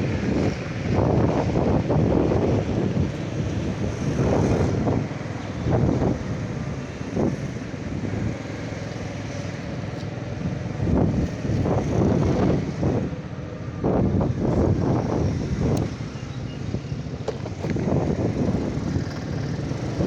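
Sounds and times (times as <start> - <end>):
motorcycle engine and road noise: 0.0 - 20.0
wind buffeting microphone: 0.0 - 20.0.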